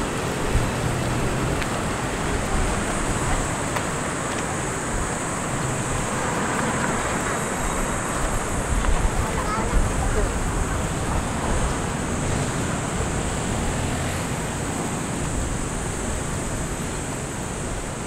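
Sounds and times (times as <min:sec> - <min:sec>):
constant high hiss: 0:00.0 - 0:18.0
road traffic: 0:00.0 - 0:18.0.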